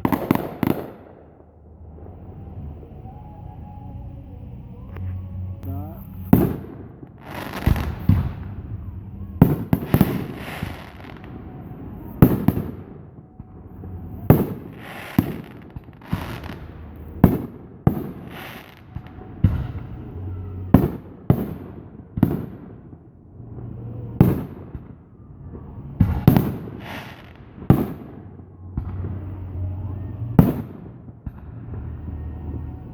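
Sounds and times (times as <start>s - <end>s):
fireworks bangs: 0.0s - 3.3s, 5.6s - 32.9s.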